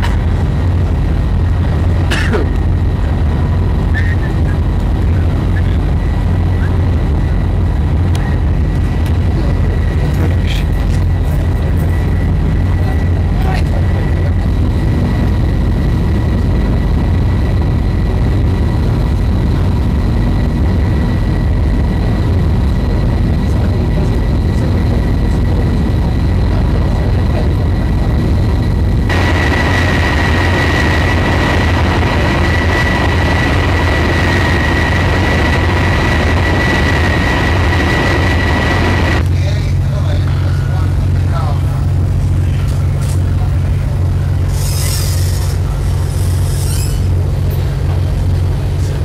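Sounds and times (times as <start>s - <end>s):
high whine: 0.0s - 49.0s
ship engines rumbling: 0.0s - 49.0s.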